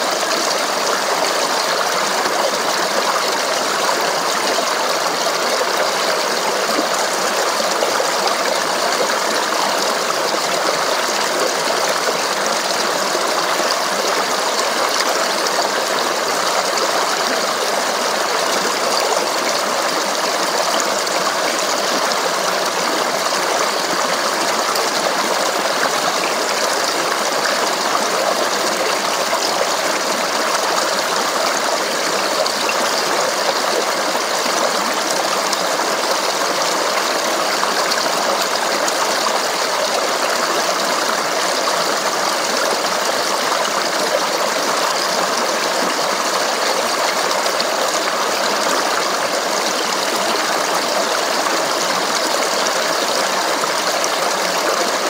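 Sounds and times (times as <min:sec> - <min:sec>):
stream babbling over rocks: 0:00.0 - 0:55.0.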